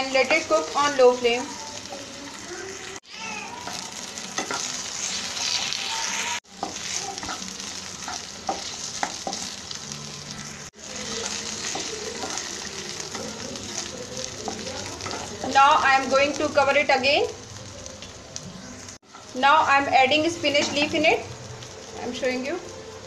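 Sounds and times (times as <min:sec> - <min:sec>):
potatoes sizzling in frying pan: 0:00.0 - 0:23.0.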